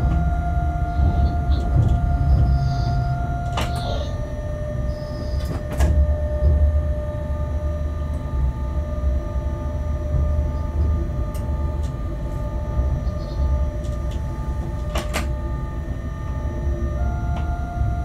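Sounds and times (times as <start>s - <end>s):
locomotive low rumble: 0.0s - 18.0s
whining hum: 0.0s - 18.0s.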